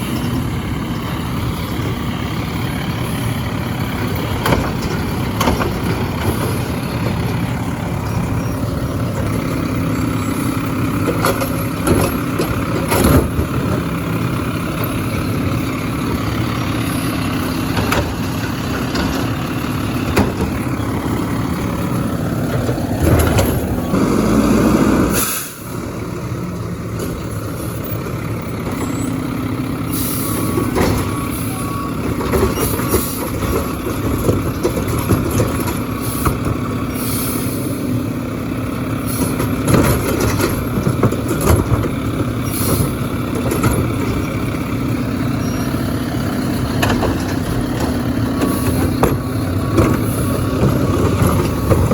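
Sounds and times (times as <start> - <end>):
garbage truck diesel engine: 0.0 - 51.9.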